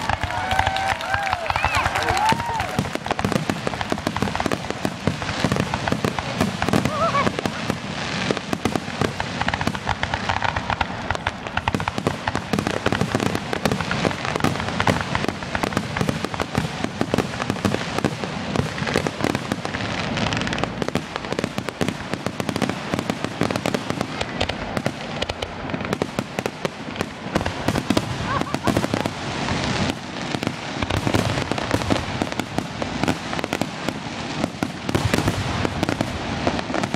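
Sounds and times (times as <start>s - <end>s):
fireworks crackling bangs and pops: 0.0s - 36.9s.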